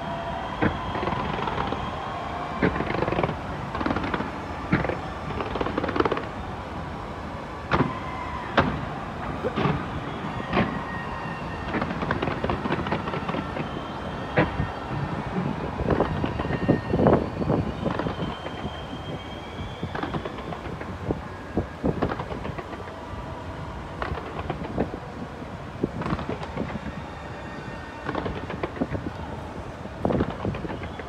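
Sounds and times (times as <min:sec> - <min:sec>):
fireworks bangs and pops: 0:00.1 - 0:06.5, 0:07.7 - 0:11.0, 0:11.6 - 0:23.0, 0:23.8 - 0:26.9, 0:28.0 - 0:31.0.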